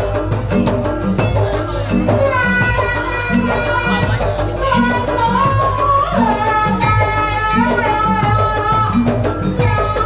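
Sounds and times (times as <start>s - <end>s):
steady metallic jingle: 0.0s - 10.0s.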